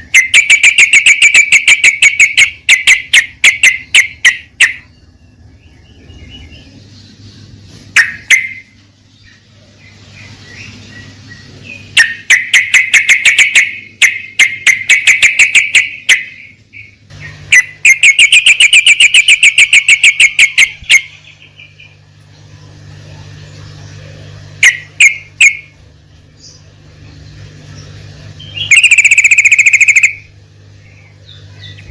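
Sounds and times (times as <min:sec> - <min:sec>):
bulbul singing chattering notes: 0:00.0 - 0:22.5, 0:23.4 - 0:31.9.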